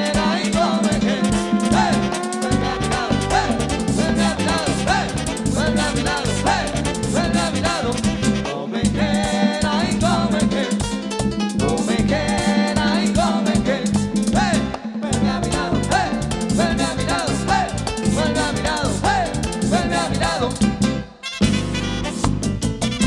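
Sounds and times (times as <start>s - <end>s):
drum and percussion beat: 0.0s - 23.0s
live band playing merengue: 0.0s - 23.0s.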